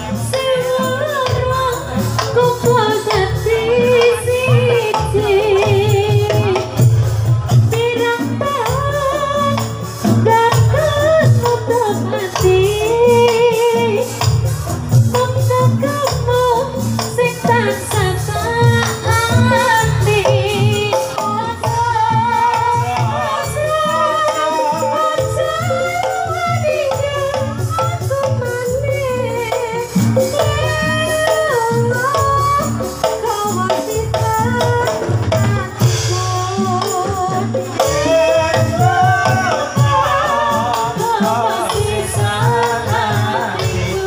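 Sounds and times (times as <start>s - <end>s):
jingling percussion: 0.0s - 44.0s
low drum rhythm: 0.0s - 44.0s
person singing with vibrato: 0.0s - 44.0s.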